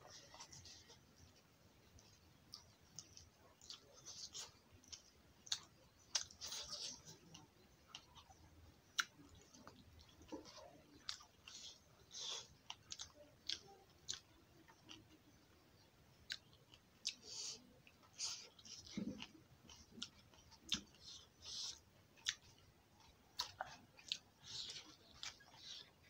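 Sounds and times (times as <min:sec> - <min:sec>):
person chewing with lip smacks: 0:01.9 - 0:15.1, 0:16.2 - 0:26.0.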